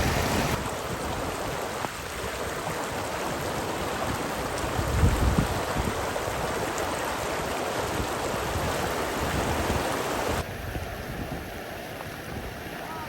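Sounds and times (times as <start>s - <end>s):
running rainwater: 0.0s - 13.0s
wind buffeting microphone: 0.0s - 13.0s.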